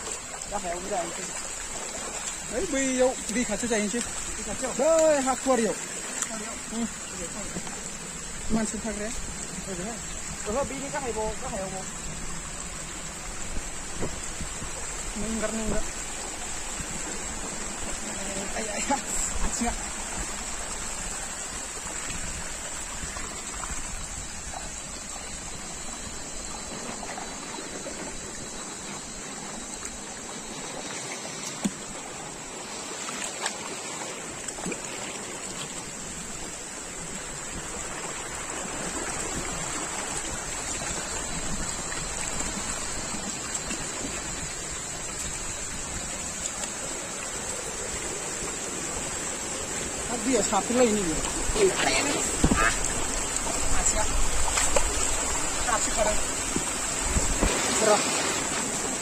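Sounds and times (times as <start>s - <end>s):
stream splashing over boulders: 0.0s - 59.0s.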